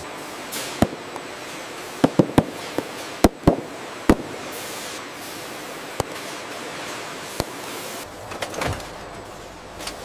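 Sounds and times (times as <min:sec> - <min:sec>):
steady machine hiss: 0:00.0 - 0:08.3.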